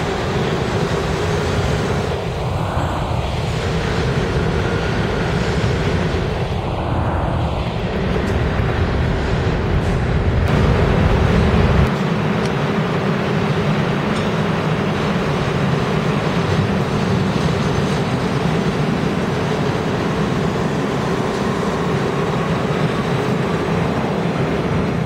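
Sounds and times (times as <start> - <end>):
subway train rumbling over track: 0.0 - 25.0.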